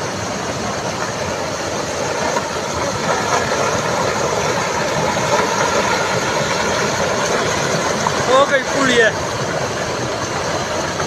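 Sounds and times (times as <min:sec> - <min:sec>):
debris and water rushing: 0:00.0 - 0:11.0.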